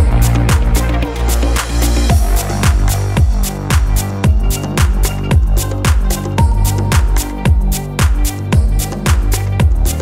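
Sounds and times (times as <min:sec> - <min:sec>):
deep kick drum: 0:00.0 - 0:00.8, 0:02.1 - 0:10.0
electronic background music: 0:00.0 - 0:10.0.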